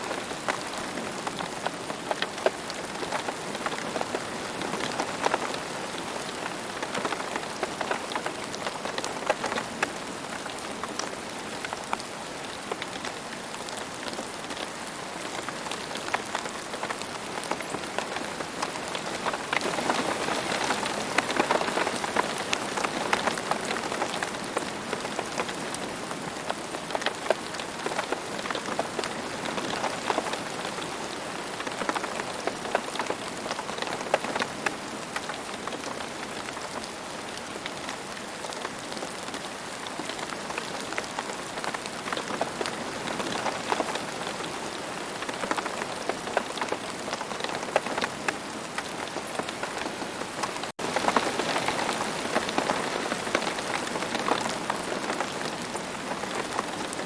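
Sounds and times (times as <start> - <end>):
rain pattering on ground: 0.0 - 57.0.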